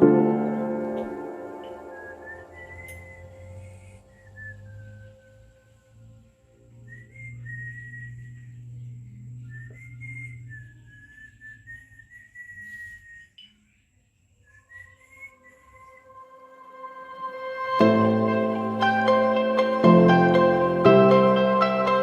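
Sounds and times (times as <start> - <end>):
whistled melody: 0.0 - 6.0, 6.6 - 13.6, 14.4 - 22.0
low sustained tone: 0.0 - 11.1, 14.8 - 22.0.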